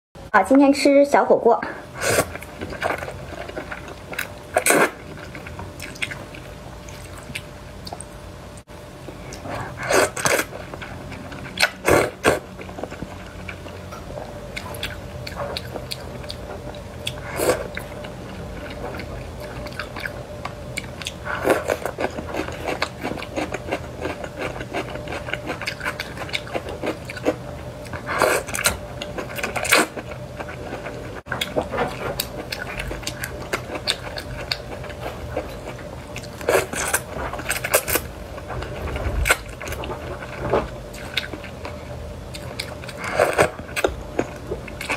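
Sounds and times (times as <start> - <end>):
wet chewing: 2.0 - 8.1, 9.1 - 44.9.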